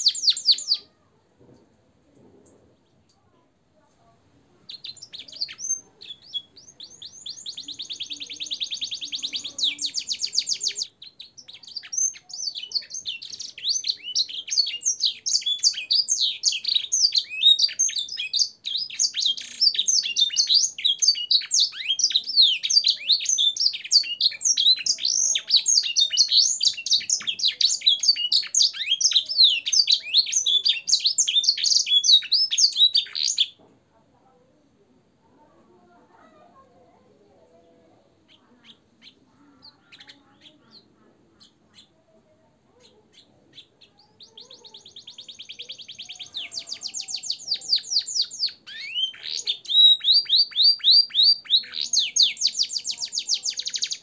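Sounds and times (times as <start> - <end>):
canary singing: 0.0 - 1.0, 4.5 - 33.6, 36.1 - 54.0.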